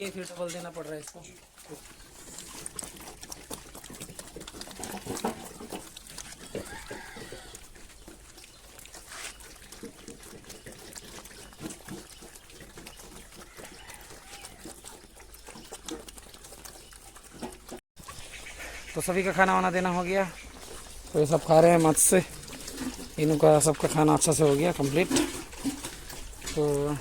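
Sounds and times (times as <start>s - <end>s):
pigs chomping and slurping: 0.0s - 27.0s
pigs grunting: 1.6s - 27.0s.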